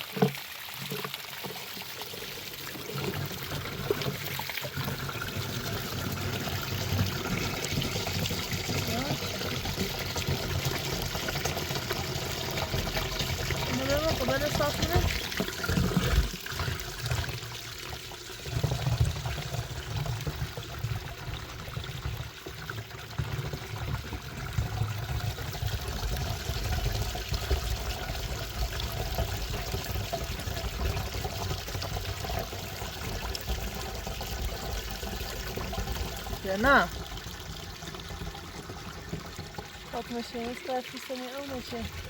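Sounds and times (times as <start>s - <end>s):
water running and splashing: 0.0s - 42.0s.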